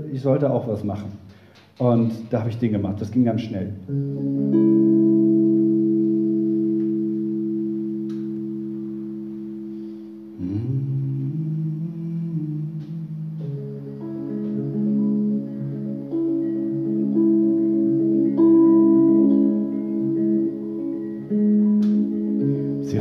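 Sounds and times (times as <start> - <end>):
electric bass guitar chords: 3.8 - 23.0.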